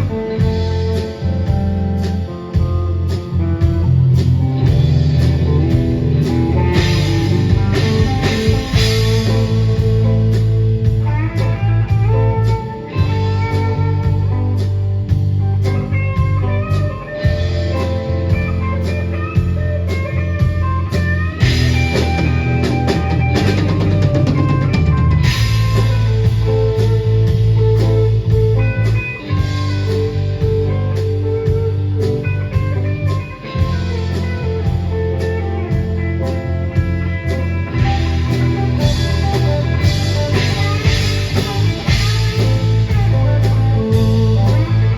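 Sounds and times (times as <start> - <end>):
instrumental rock music: 0.0 - 44.9.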